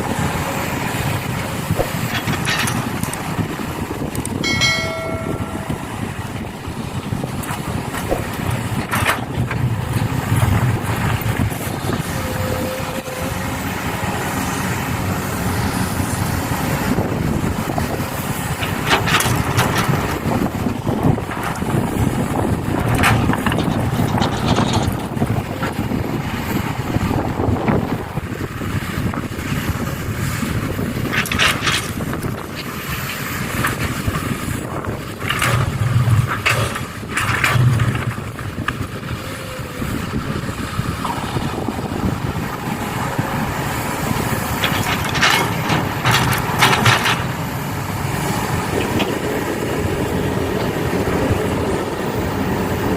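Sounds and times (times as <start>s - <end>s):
heavy machinery engine rumble: 0.0s - 52.9s.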